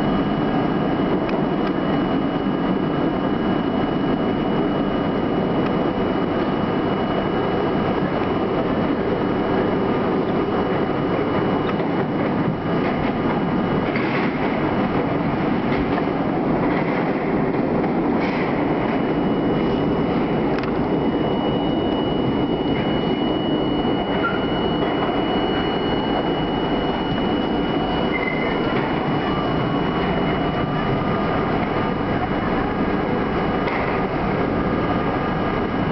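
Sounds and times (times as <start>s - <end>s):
high thin whine: 0.0s - 35.9s
wheels rumbling on rail: 0.0s - 35.9s.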